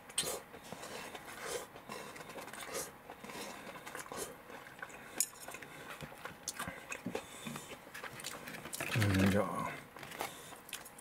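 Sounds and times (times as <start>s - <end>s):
chewing food: 0.1s - 11.0s.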